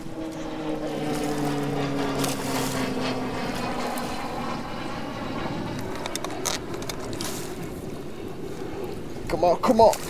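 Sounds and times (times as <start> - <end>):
distant engine drone: 0.0 - 10.0
water noise: 0.0 - 10.0
wind: 0.0 - 10.0.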